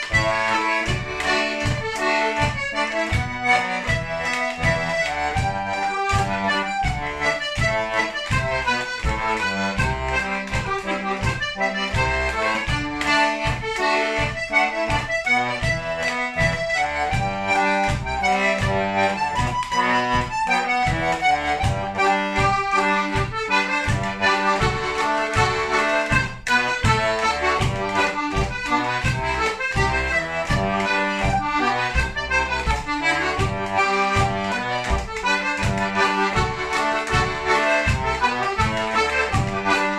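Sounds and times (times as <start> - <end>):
button accordion folk tune: 0.0 - 39.9.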